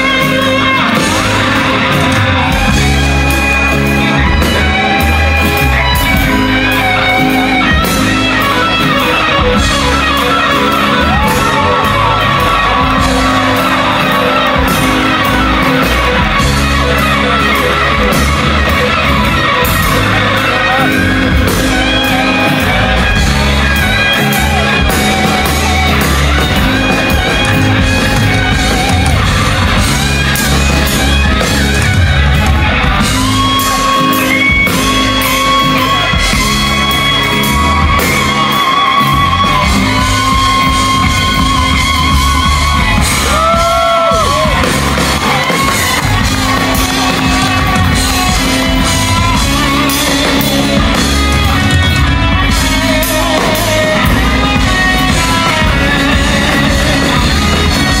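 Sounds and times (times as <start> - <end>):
electric guitar high notes: 0.0 - 58.0
live band music: 0.0 - 58.0.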